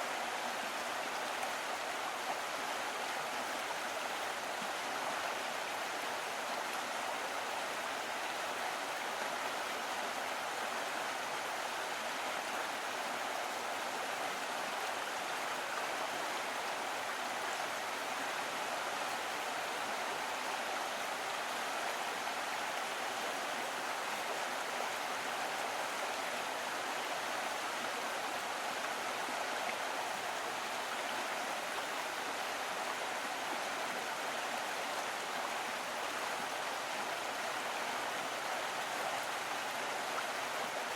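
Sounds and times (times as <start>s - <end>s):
small stream running: 0.0s - 40.9s.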